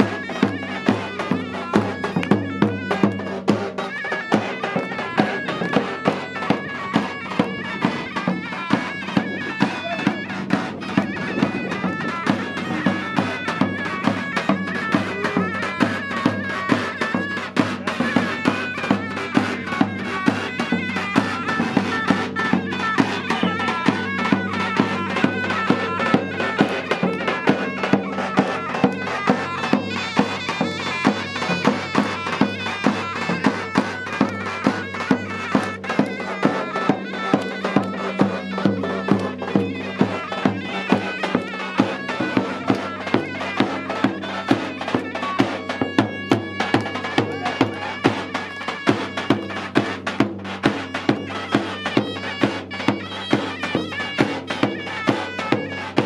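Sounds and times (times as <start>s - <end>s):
large drum beating: 0.0s - 56.0s
shrill reed wind instrument: 0.0s - 56.0s.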